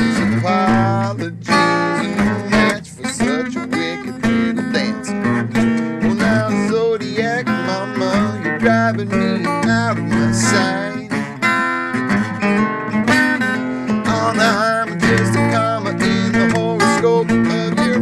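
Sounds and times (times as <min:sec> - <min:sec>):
man singing: 0:00.0 - 0:11.6, 0:13.8 - 0:18.0
strummed acoustic guitar: 0:00.0 - 0:18.0.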